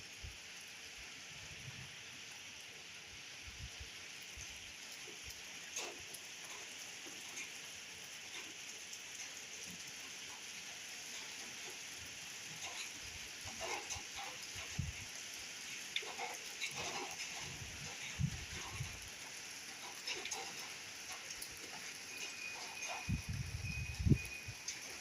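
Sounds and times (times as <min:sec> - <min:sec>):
steady rain hiss: 0:00.0 - 0:25.0
raindrops tapping: 0:04.2 - 0:25.0.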